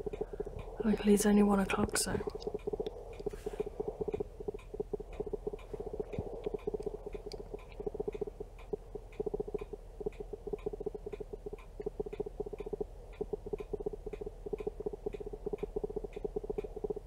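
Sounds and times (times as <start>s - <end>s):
clock ticking faintly: 0.0s - 17.0s.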